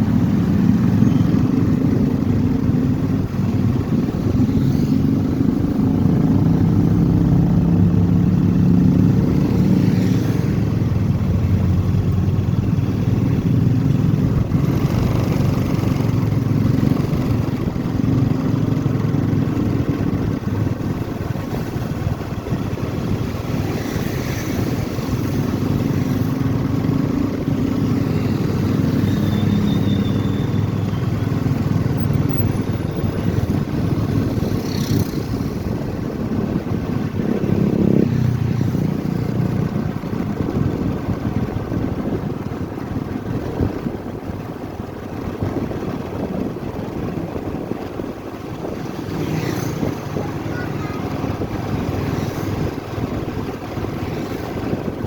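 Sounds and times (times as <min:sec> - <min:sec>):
motorcycle engine riding: 0:00.0 - 0:55.0
wind and road noise: 0:00.0 - 0:55.0.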